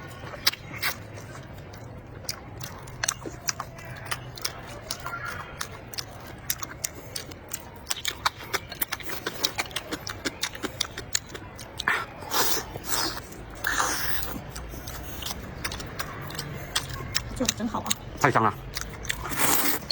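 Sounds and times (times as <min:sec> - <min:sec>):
wet chewing: 0:00.0 - 0:19.9
lip smacks: 0:00.4 - 0:19.9
mouth clicks: 0:00.4 - 0:19.9.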